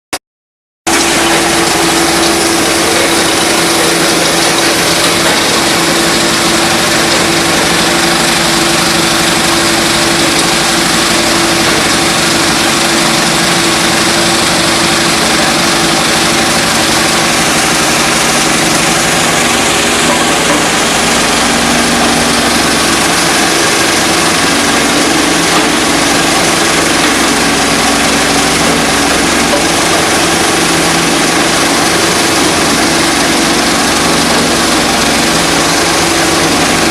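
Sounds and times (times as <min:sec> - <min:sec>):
stone crusher machine running: 0:00.9 - 0:36.9.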